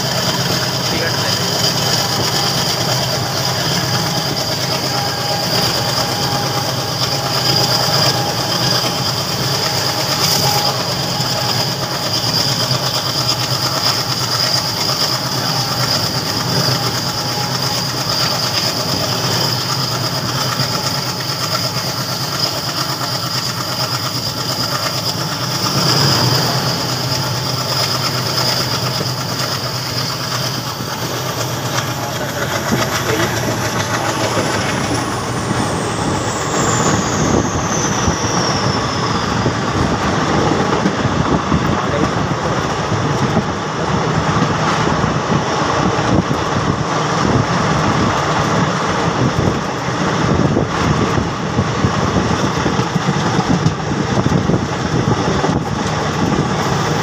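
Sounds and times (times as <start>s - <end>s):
train rumble: 0.0s - 57.0s
wheels clattering over rail joints: 0.0s - 57.0s.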